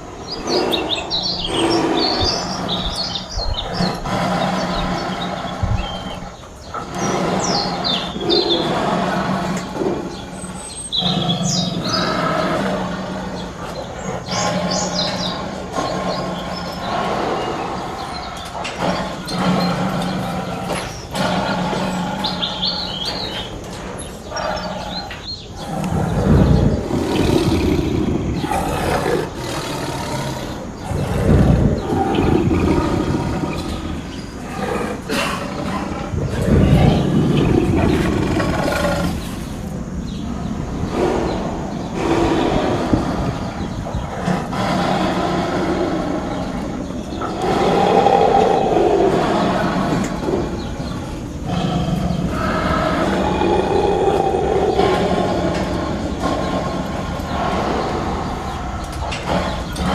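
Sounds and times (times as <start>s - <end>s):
birds chirping: 0.0s - 59.9s
deep animal roars: 0.0s - 59.9s.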